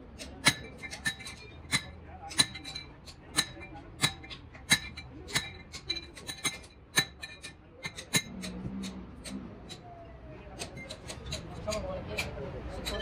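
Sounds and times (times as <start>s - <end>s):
hammer clanging on steel: 0.2s - 9.9s, 10.6s - 13.0s.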